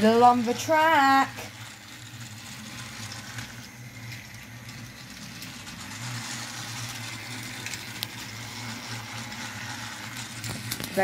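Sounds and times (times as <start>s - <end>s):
toy train motor hum: 0.0s - 11.0s
wheels on plastic track: 0.0s - 11.0s.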